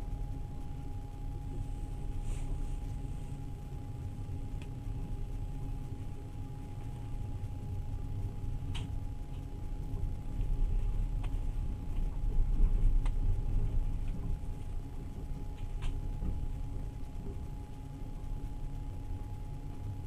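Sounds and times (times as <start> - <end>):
train rumble inside carriage: 0.0 - 20.0.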